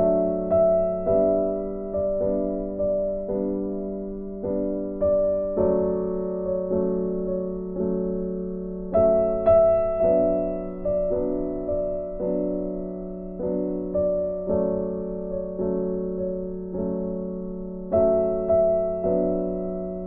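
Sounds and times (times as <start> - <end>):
gentle piano piece: 0.0 - 20.0.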